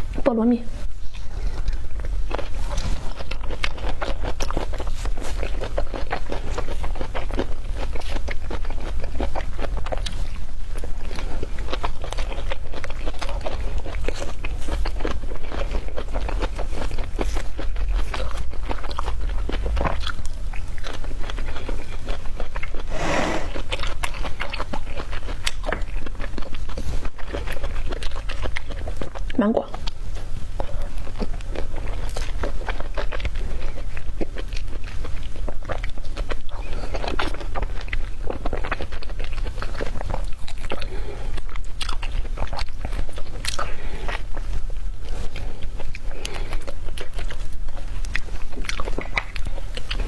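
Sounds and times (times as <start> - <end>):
chewing fruit with crisp clicks: 1.0 - 22.9, 23.5 - 50.0.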